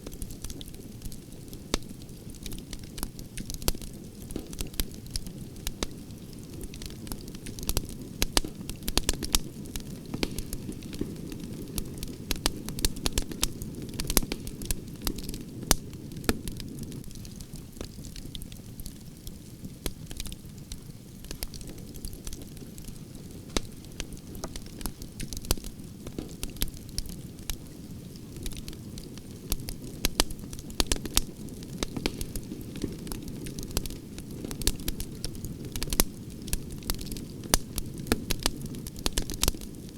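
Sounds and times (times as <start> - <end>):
fire crackling and popping: 0.0 - 39.9
campfire flames rushing: 0.2 - 39.9.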